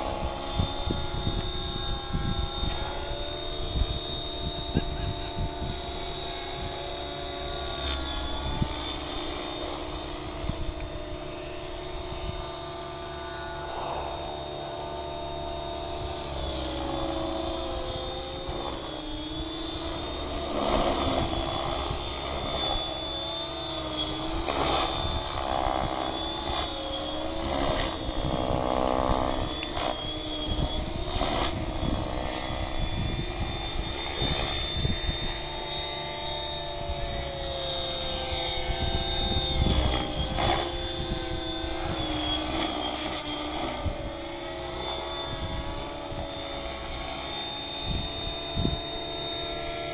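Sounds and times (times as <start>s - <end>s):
rc helicopter motor whine: 0.0s - 49.9s
rotor noise: 0.0s - 49.9s.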